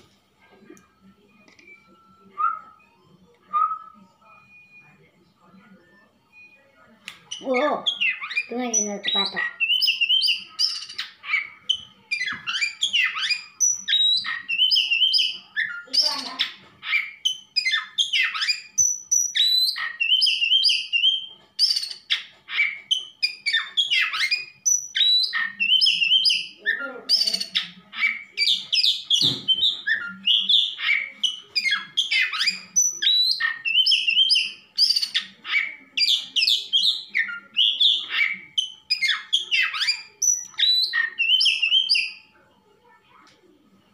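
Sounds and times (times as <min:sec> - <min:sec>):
bird singing whistles and chatter: 0:01.6 - 0:04.7, 0:07.2 - 0:42.3.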